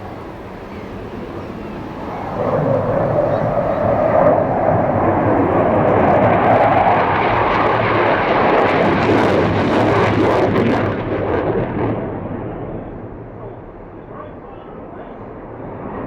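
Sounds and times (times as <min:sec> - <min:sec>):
jet passing low: 0:00.0 - 0:16.0.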